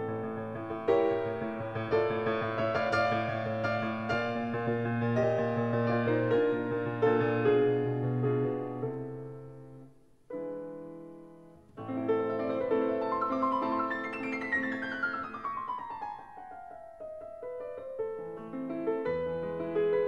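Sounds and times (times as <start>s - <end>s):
solo piano music: 0.0s - 20.0s.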